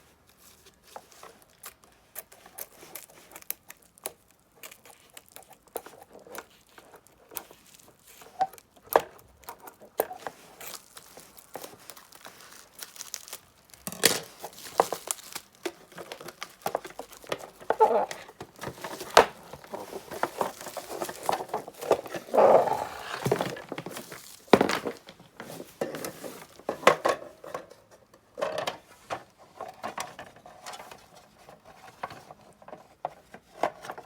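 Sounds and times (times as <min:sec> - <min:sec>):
rustling and crinkling: 0:00.0 - 0:34.0.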